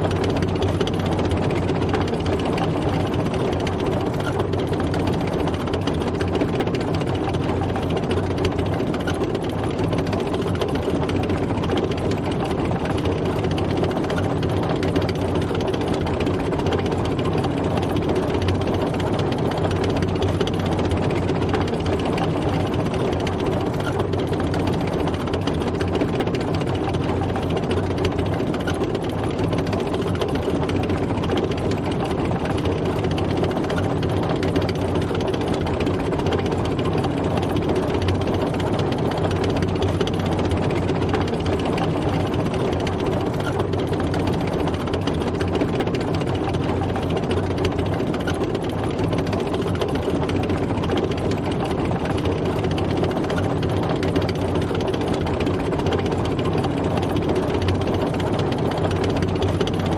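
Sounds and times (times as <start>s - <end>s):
clatter of tank tracks: 0.0s - 59.9s
heavy engine running: 0.0s - 59.9s.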